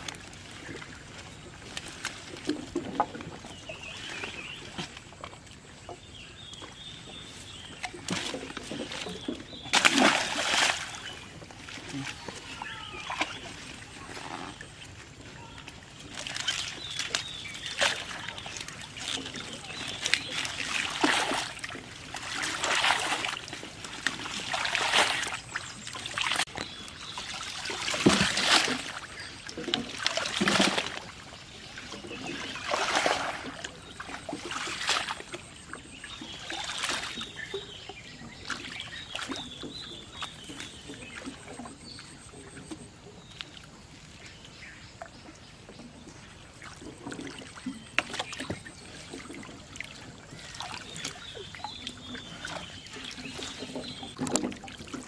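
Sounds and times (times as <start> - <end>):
water splashing and sloshing: 0.0 - 55.0.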